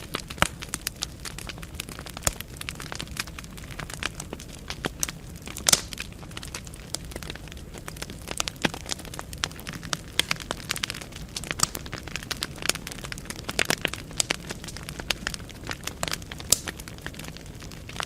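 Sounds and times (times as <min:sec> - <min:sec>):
fire crackling and popping: 0:00.0 - 0:18.0
low rumble of flame: 0:00.0 - 0:18.0.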